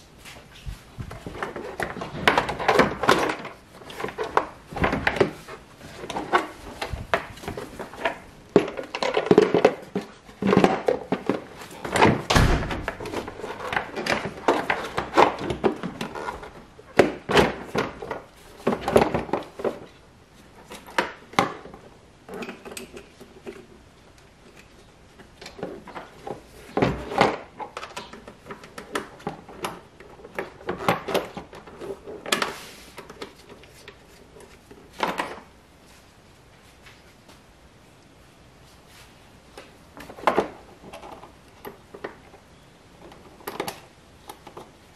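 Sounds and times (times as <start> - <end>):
plastic parts knocking and clunking: 1.0 - 35.6, 39.6 - 44.9.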